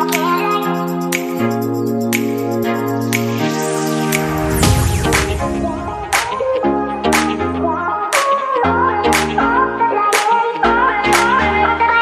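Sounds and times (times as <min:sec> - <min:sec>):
keyboard chords over a beat: 0:00.0 - 0:12.0.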